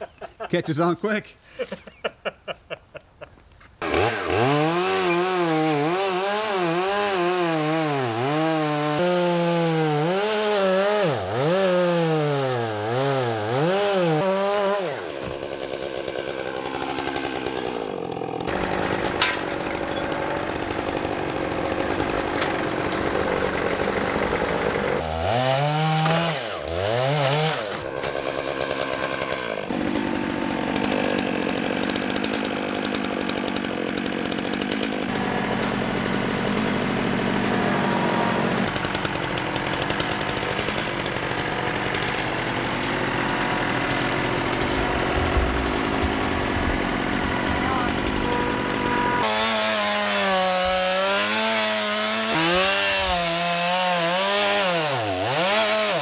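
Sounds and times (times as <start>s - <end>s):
chainsaw cutting log: 3.8s - 56.0s.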